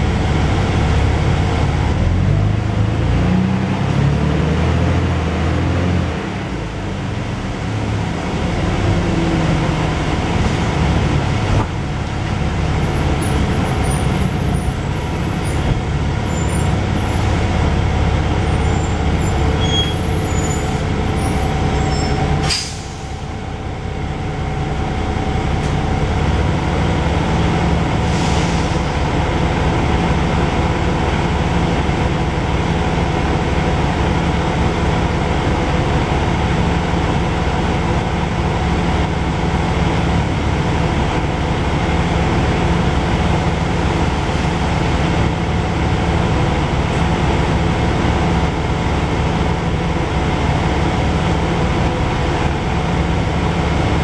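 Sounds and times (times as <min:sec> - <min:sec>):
bus engine hum: 0:00.0 - 0:54.0.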